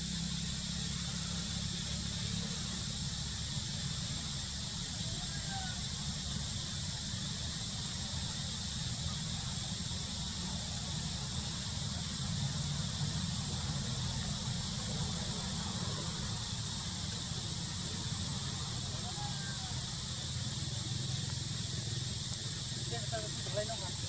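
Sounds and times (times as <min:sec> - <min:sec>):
faint steady whine: 0:00.0 - 0:24.0
high even hiss: 0:00.0 - 0:24.0.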